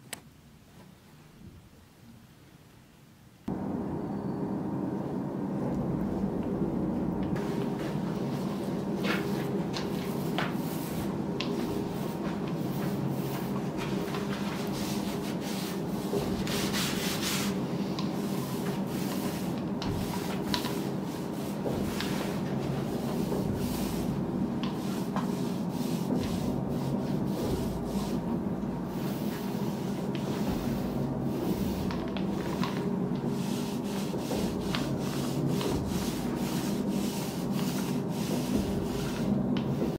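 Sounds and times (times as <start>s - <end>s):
steady low hum: 3.4s - 39.9s
paint roller rubbing on wood: 7.4s - 39.9s.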